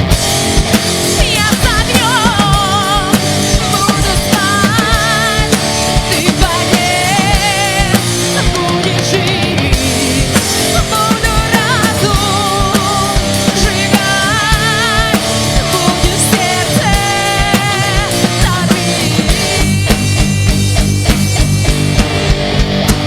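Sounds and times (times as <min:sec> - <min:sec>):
rock music: 0:00.0 - 0:23.0.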